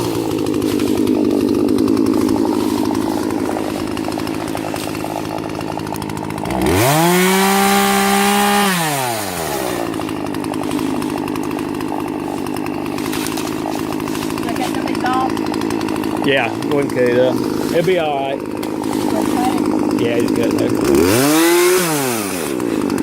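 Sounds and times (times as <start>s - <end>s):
two-stroke chainsaw revving: 0.0s - 23.0s.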